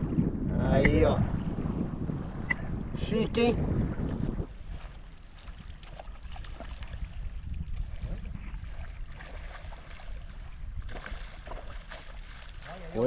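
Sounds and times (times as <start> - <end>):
faint water sounds: 0.0 - 13.0.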